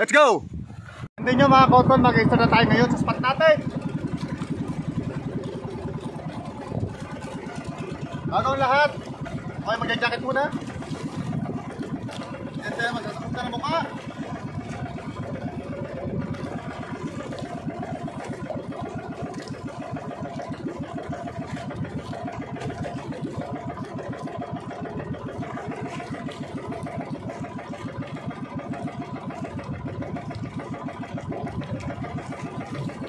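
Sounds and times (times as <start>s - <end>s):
water splashing along hull: 0.0s - 33.0s
boat motor puttering: 1.2s - 33.0s.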